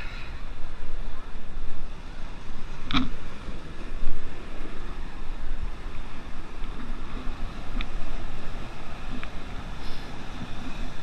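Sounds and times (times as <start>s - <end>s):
water rushing over rocks: 0.0s - 11.0s
wind buffeting microphone: 0.0s - 11.0s.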